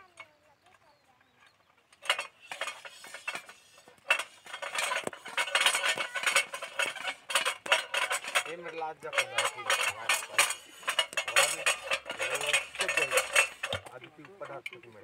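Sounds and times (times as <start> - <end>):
metallic clinking and clattering: 0.0 - 15.0.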